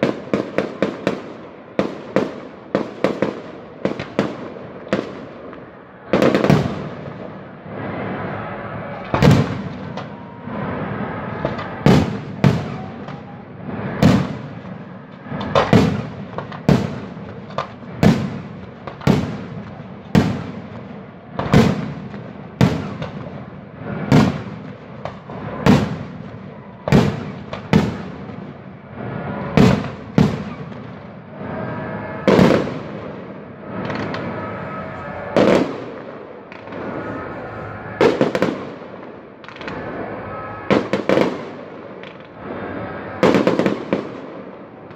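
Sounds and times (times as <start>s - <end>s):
fireworks bursting with echo: 0.0s - 44.9s.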